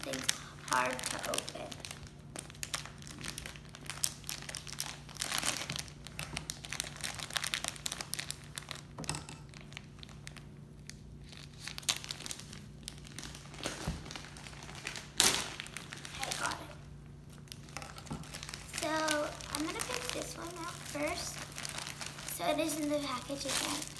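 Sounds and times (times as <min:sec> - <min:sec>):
plastic packaging crinkling: 0:00.0 - 0:23.9.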